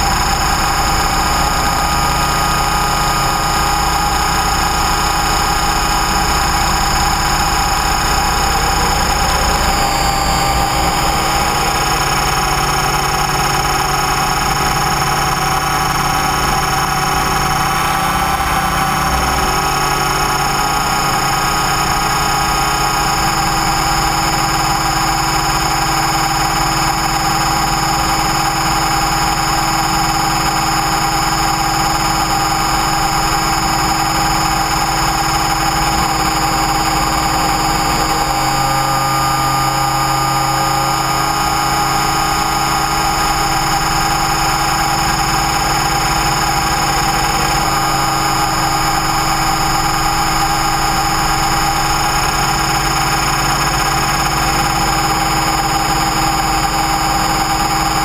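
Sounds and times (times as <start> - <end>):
low hum: 0.0 - 58.0
rc helicopter motor whine: 0.0 - 58.0.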